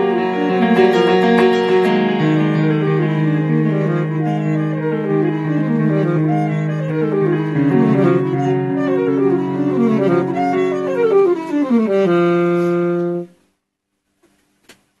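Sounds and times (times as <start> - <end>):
instrumental music: 0.0 - 13.6.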